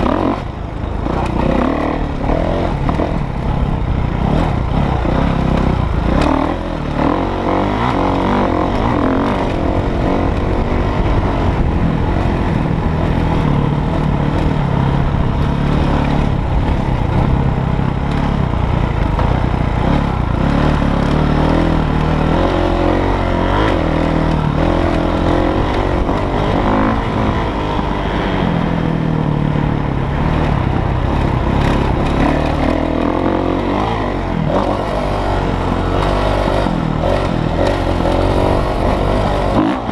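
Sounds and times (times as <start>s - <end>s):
dirt bike engine racing: 0.0s - 39.9s.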